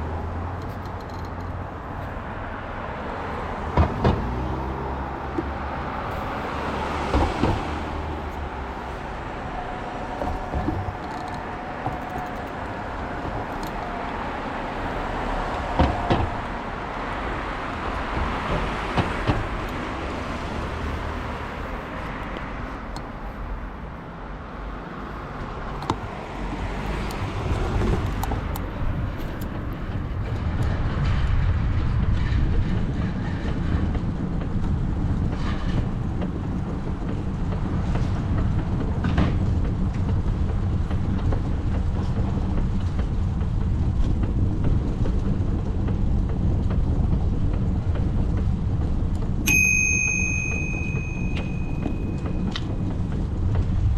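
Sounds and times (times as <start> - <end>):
bicycle road noise rumbling: 0.0 - 53.9.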